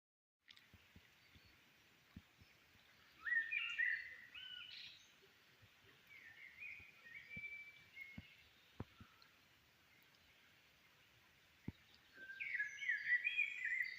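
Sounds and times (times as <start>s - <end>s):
bird singing: 1.0s - 13.9s.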